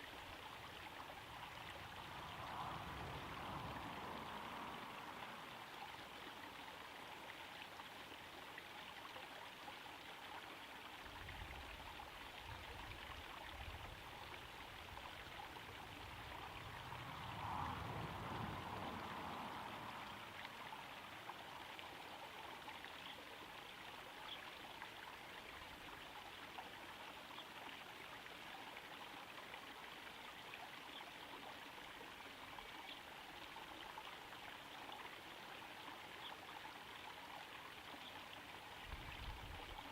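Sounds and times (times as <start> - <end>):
waterfall trickling and splashing: 0.0 - 39.9.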